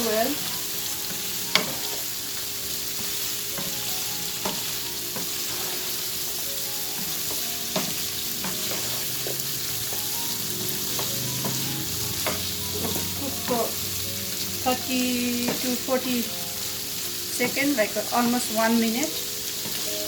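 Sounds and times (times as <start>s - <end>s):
chicken and vegetables sizzling: 0.0s - 20.0s.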